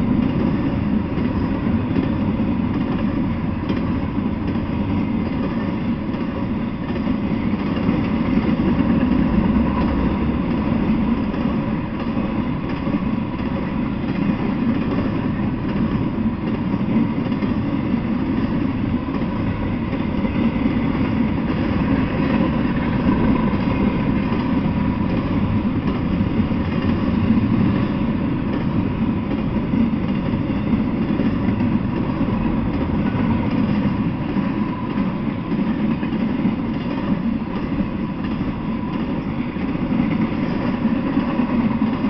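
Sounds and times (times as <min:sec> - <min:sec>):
freight train wheels on track: 0:00.0 - 0:42.0.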